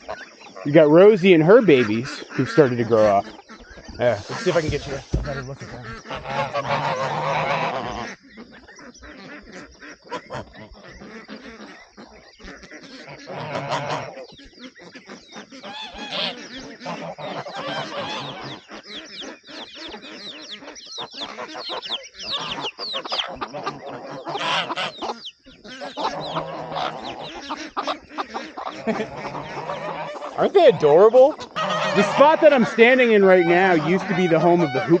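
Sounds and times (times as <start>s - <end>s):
geese honking: 0.0s - 35.0s
poultry calls: 0.0s - 35.0s.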